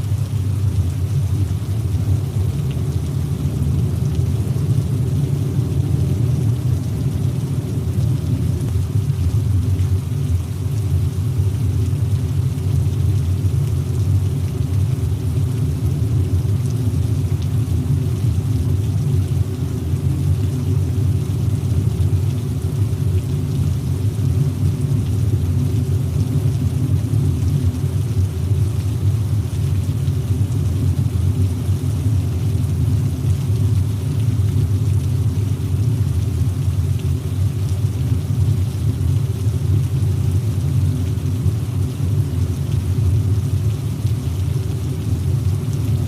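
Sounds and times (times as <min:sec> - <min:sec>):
rain and spray hiss: 0:00.0 - 0:46.0.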